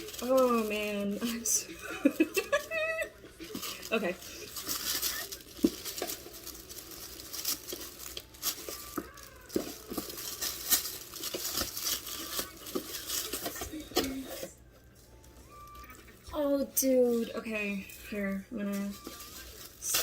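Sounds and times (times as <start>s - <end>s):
tissue paper crinkling: 0.0s - 20.0s.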